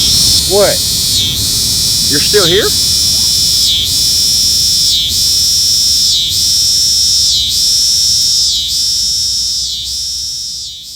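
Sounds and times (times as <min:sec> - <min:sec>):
cicadas buzzing: 0:00.0 - 0:10.9.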